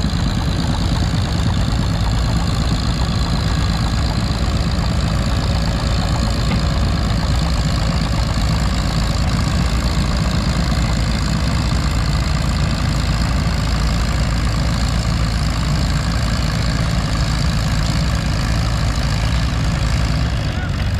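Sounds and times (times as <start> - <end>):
tractor engine idling: 0.0 - 20.9.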